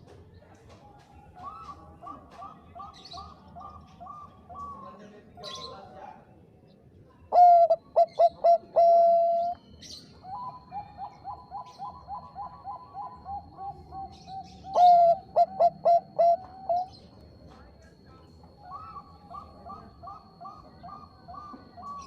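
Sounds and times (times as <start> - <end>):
dove cooing: 1.2 - 5.9, 7.3 - 17.2, 18.1 - 22.0.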